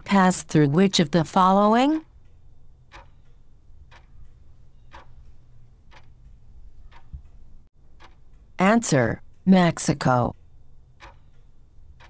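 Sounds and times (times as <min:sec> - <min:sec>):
clock ticking: 0:00.0 - 0:12.0
low background hum: 0:00.0 - 0:12.0.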